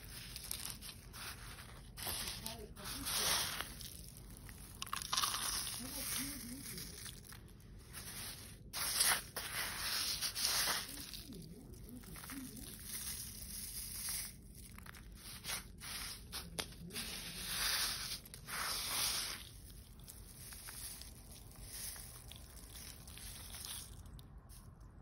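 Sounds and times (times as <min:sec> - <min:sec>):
seeds rustling and pattering: 0:00.0 - 0:25.0.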